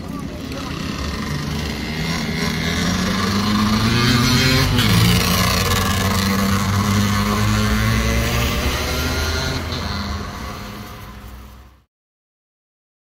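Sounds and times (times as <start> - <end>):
road vehicle passing: 0.0 - 11.8.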